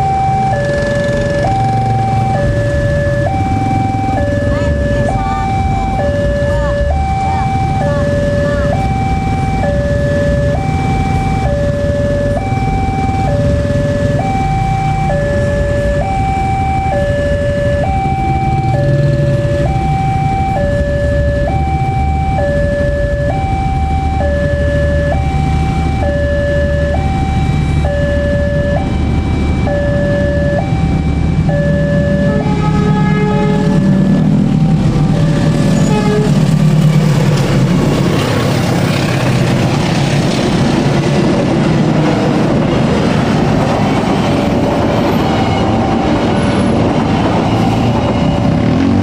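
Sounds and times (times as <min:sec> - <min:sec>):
level crossing two-tone alarm: 0:00.0 - 0:39.0, 0:41.5 - 0:49.0
motorcycles idling: 0:00.0 - 0:49.0.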